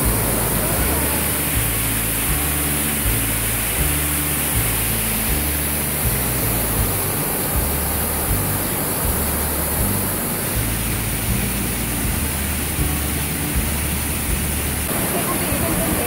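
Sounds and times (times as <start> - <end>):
water pouring over rocks: 0.0 - 16.0.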